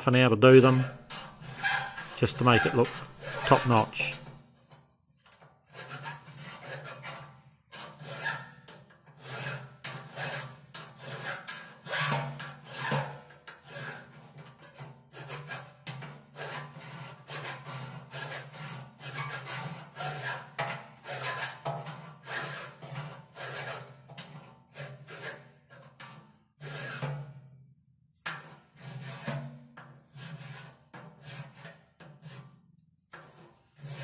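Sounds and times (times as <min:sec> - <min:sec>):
hand file rasping on steel: 0:00.5 - 0:04.4, 0:05.6 - 0:27.1, 0:28.6 - 0:34.0.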